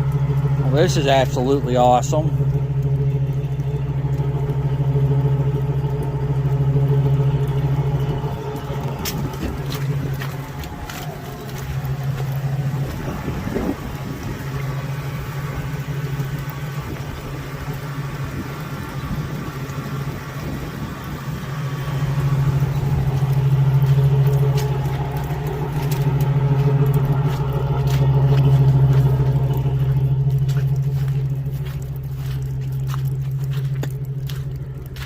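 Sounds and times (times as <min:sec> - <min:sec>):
motorhome engine under load: 0:00.0 - 0:35.0.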